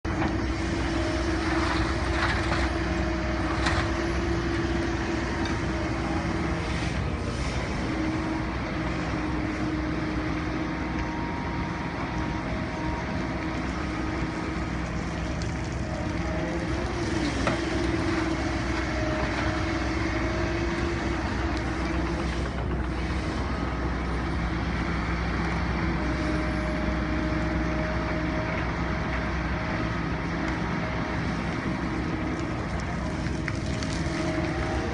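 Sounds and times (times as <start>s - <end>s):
excavator diesel engine: 0.0s - 34.9s.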